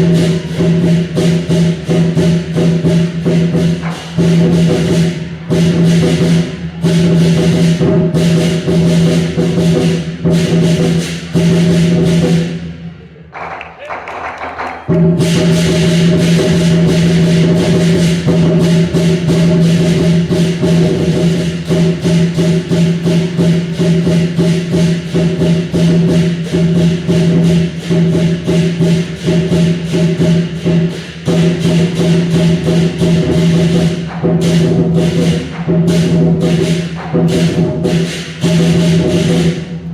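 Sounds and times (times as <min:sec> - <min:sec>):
steady percussive beat: 0:00.0 - 0:39.9.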